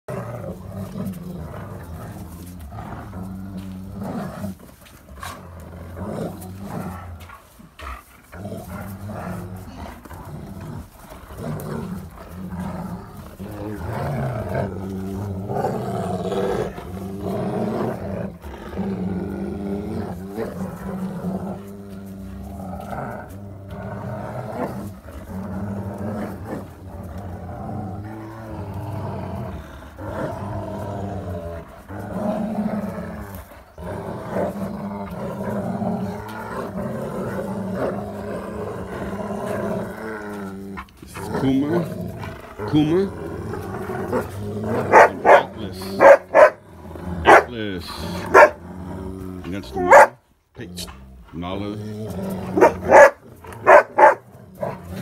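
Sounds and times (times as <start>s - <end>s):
dogs growling: 0.0s - 55.0s.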